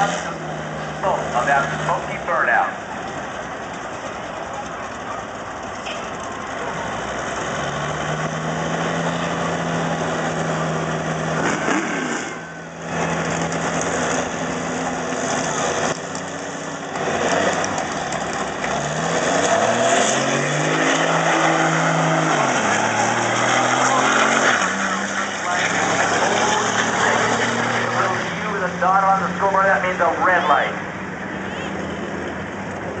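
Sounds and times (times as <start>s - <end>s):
diesel truck engine droning: 0.0s - 33.0s.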